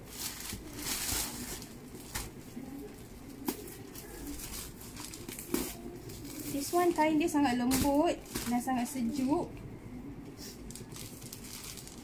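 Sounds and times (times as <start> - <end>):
plastic packaging rustling: 0.0 - 9.5, 10.4 - 12.0.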